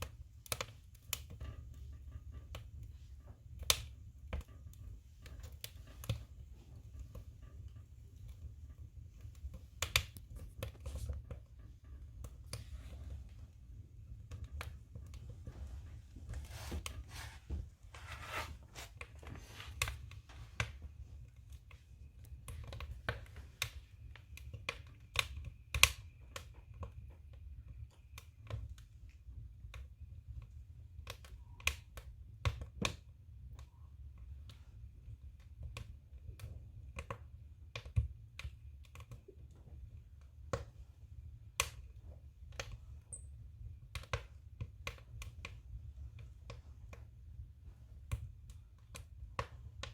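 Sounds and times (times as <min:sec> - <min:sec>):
firewood crackling and popping: 0:00.0 - 0:49.9.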